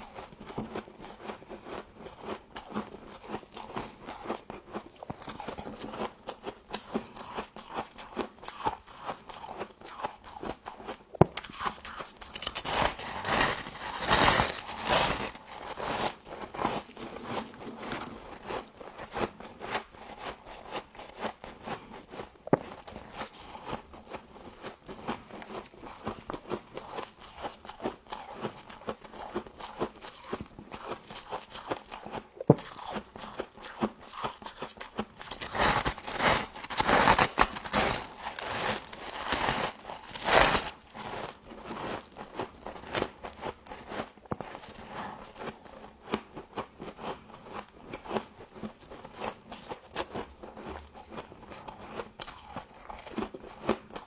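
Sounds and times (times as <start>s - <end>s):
chewing crisp frost: 0.0s - 54.0s.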